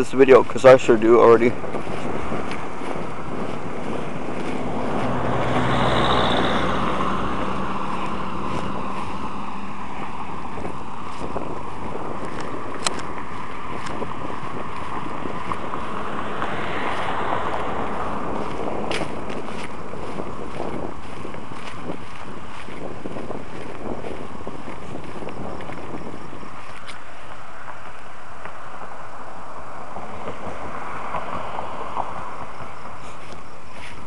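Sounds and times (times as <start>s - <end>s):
low engine hum: 0.0s - 34.0s
vehicle and wind noise: 0.0s - 34.0s.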